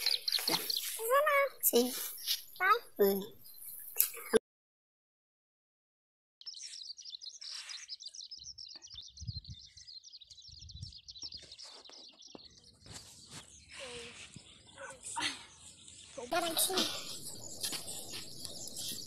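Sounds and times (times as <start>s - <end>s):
small bird chirping rapidly: 0.0s - 4.3s, 6.4s - 14.9s, 15.6s - 19.0s.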